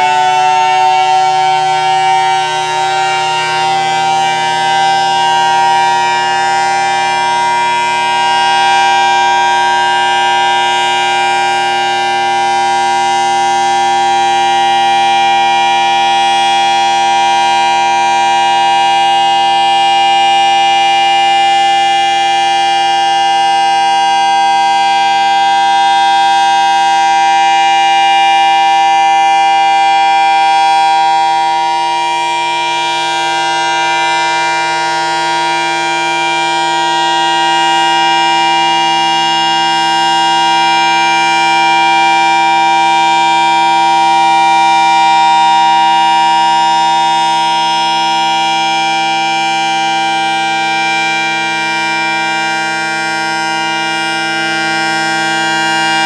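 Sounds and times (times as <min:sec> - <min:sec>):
siren steady loud tone: 0:00.0 - 0:56.0.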